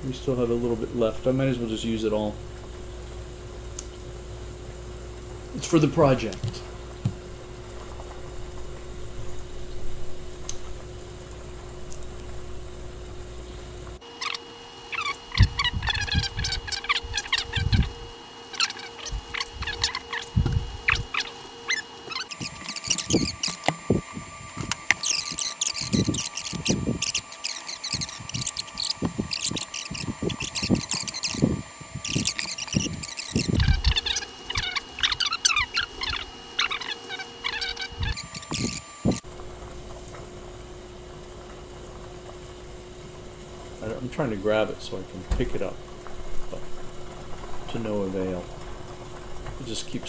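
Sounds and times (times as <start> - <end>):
gas stove hissing: 0.0 - 50.0
water boiling in a pot: 0.0 - 50.0
high crackling chirps: 2.7 - 43.6.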